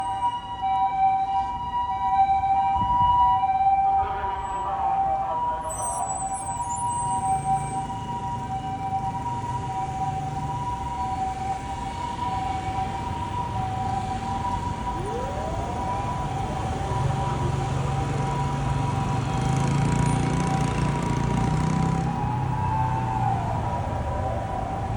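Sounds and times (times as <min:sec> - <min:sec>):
electronic two-tone sirens: 0:00.0 - 0:24.9
engine and traffic rumble: 0:00.0 - 0:24.9.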